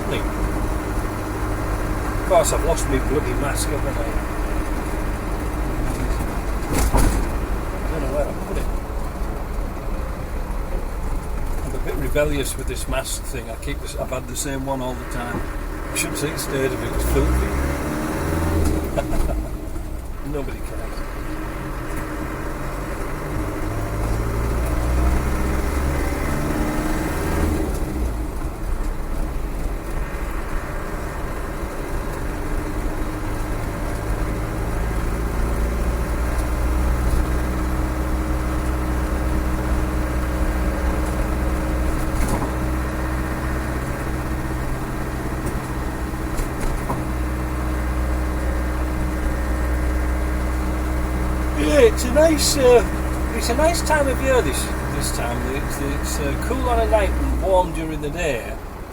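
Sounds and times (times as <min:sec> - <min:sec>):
diesel engine pulling: 0:00.0 - 0:58.9.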